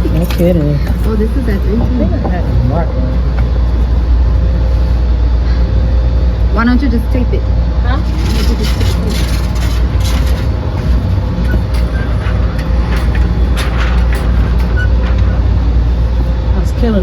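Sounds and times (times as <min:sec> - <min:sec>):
low rumble: 0:00.0 - 0:17.0
thin constant hum: 0:00.0 - 0:17.0.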